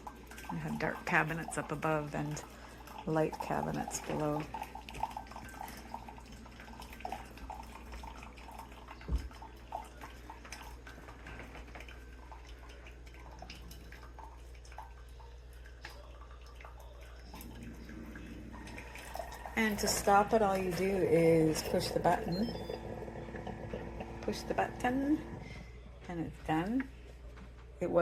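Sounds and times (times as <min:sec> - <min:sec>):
coffee trickling into cup: 0:00.0 - 0:26.1.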